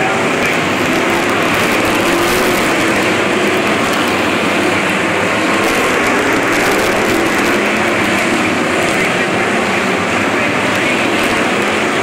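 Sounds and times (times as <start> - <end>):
racing car engines droning: 0.0 - 12.0.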